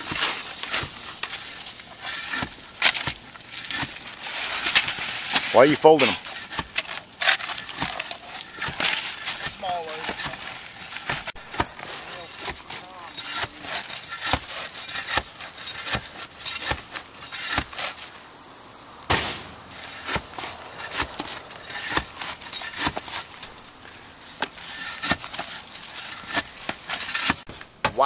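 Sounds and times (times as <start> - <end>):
shingles knocking and cracking: 0.0 - 18.2, 19.1 - 28.0
shingles scraping: 0.0 - 18.4, 19.1 - 28.0.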